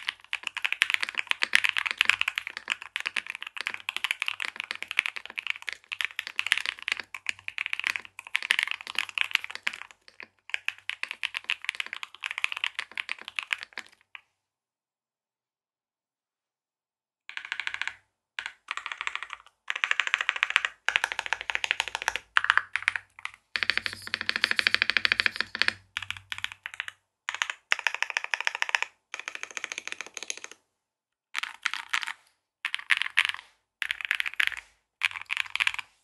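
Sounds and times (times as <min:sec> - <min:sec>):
mechanical keyboard typing: 0:00.0 - 0:14.1, 0:17.3 - 0:30.6, 0:31.4 - 0:35.9.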